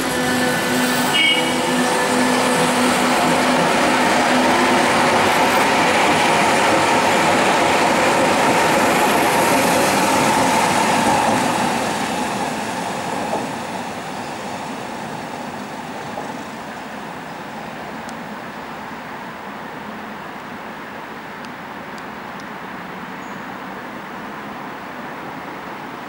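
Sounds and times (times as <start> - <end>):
subway train running past: 0.0 - 26.0.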